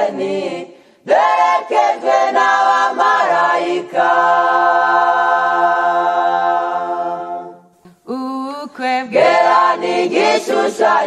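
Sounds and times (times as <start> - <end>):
unaccompanied group singing: 0.0 - 7.7, 8.8 - 11.0.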